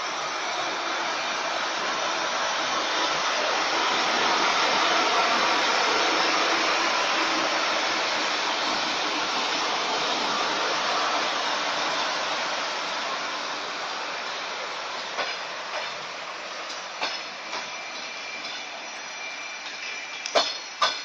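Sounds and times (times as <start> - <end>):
electric locomotive blowers rushing: 0.0 - 21.0.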